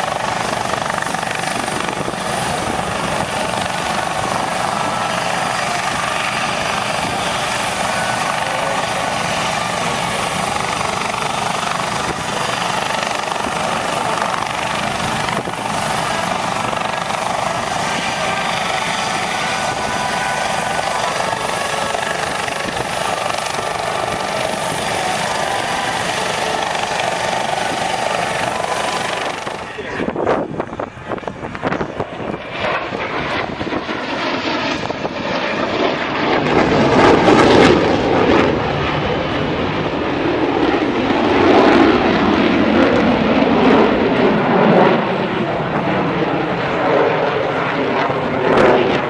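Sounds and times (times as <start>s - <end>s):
aircraft engine running: 0.0s - 49.0s.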